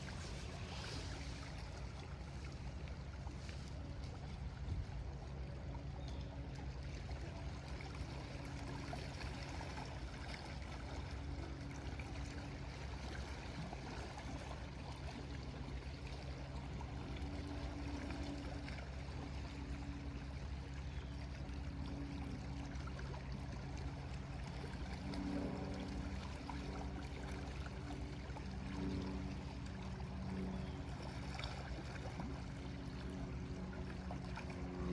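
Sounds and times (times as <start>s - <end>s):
low steady hum: 0.0s - 34.9s
waves lapping on shore: 0.0s - 34.9s.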